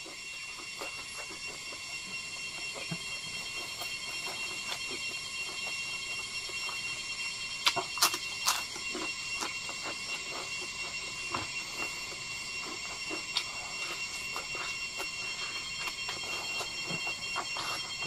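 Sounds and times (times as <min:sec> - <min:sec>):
high-pitched whine: 0:00.0 - 0:18.0
man chewing food: 0:00.0 - 0:18.0.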